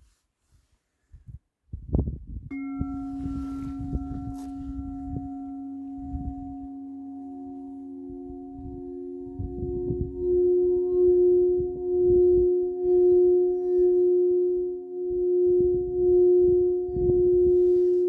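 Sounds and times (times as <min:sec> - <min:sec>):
singing bowl ringing: 0:02.5 - 0:18.0.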